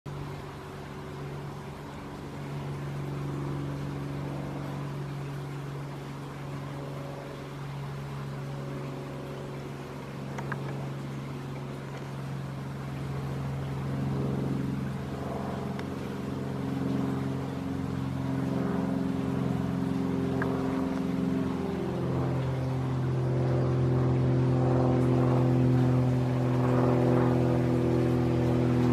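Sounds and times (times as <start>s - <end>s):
engine running: 0.1s - 28.9s.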